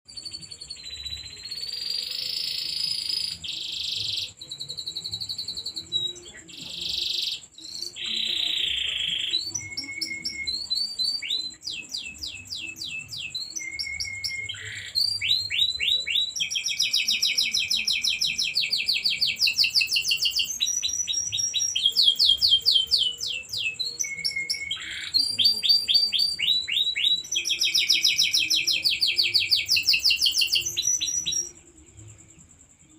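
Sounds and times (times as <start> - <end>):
canary singing: 0.1 - 32.7.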